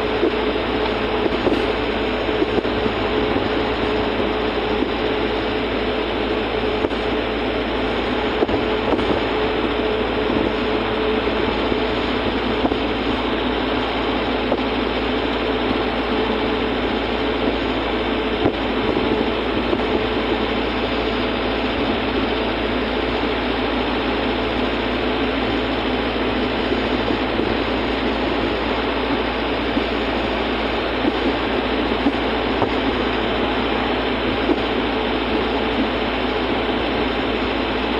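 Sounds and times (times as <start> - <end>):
car interior road noise: 0.0 - 37.9.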